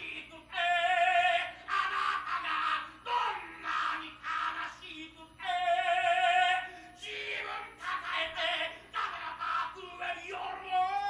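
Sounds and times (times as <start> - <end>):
voices singing unaccompanied: 0.0 - 11.0.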